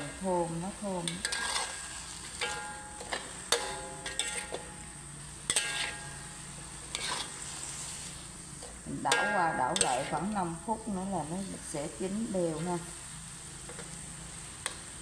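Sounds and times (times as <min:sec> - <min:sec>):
metal spatula scraping a wok: 0:00.0 - 0:12.9
food sizzling: 0:00.0 - 0:15.0.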